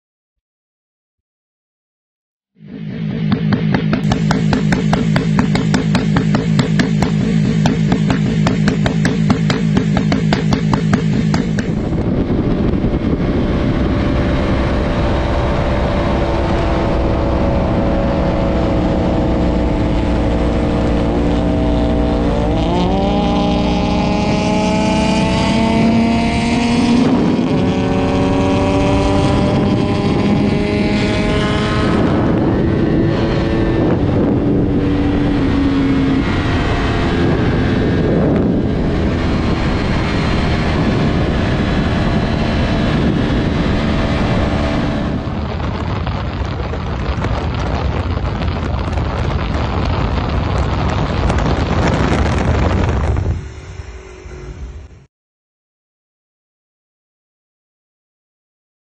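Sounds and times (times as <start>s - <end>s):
motorcycle engine accelerating: 2.6s - 55.1s.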